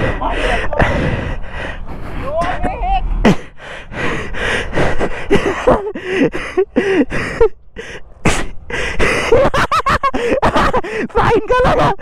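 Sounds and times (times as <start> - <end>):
person panting hard: 0.0 - 2.6, 3.3 - 9.4, 10.1 - 11.2.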